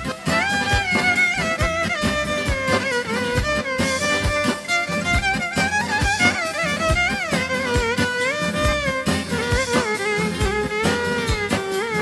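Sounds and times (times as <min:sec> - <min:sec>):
steady percussion beat: 0:00.0 - 0:12.0
violin melody with slides: 0:00.0 - 0:12.0.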